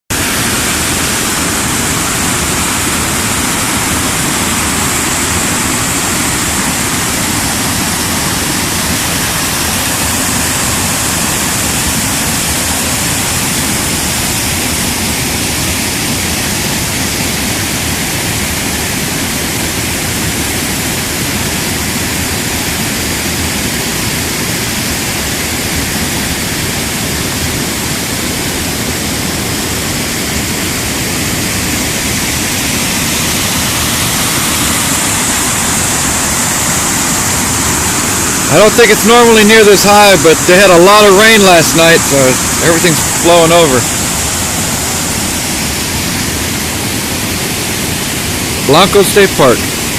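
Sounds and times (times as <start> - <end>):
river water rushing: 0.1 - 49.9.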